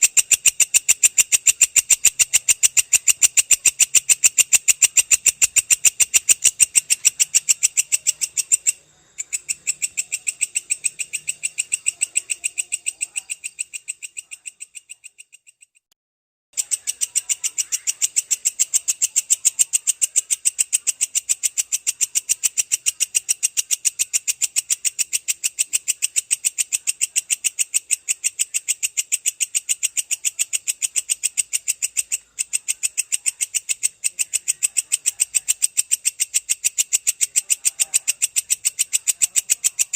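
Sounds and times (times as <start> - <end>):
katydid ticking chirps: 0.0 - 15.9, 16.6 - 39.9.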